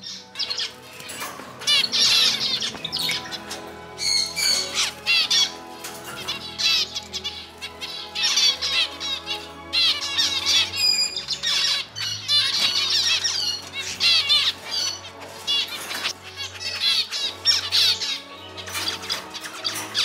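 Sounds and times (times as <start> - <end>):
background music: 0.0 - 20.0
finches chirping: 0.0 - 20.0.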